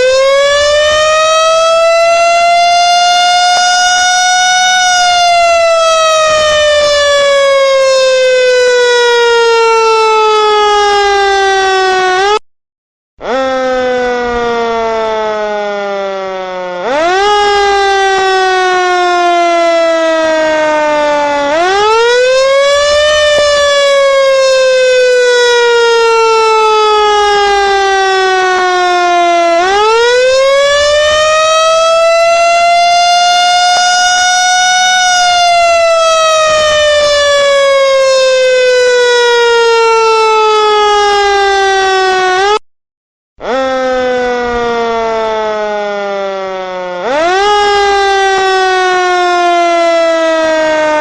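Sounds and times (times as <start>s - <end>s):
siren wailing: 0.0s - 12.4s, 13.2s - 42.6s, 43.4s - 51.0s.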